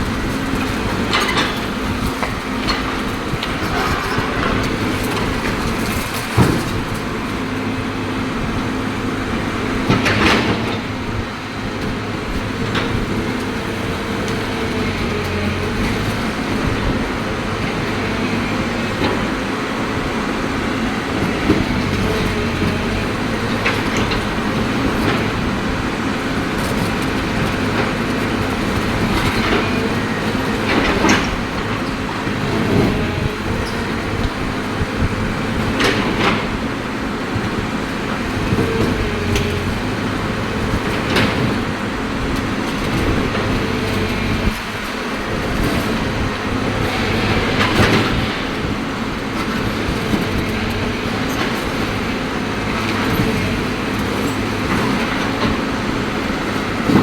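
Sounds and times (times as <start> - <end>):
machine clanking on concrete: 0.0 - 19.6, 21.1 - 57.0
excavator diesel engine running: 0.0 - 57.0.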